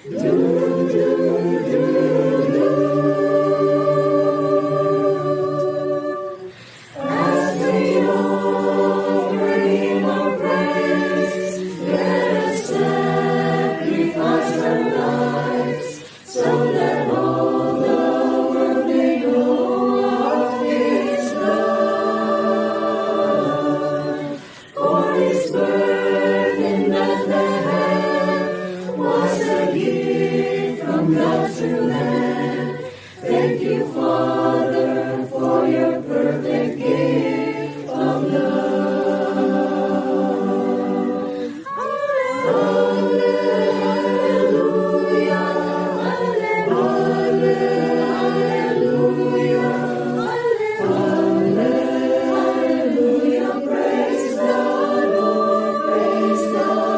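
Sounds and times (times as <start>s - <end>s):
choir singing a carol: 0.0s - 56.9s.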